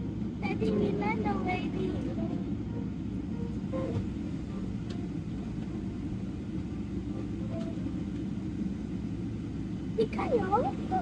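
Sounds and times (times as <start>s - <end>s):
aircraft engine rumble: 0.0s - 11.0s
cabin air system: 0.0s - 11.0s.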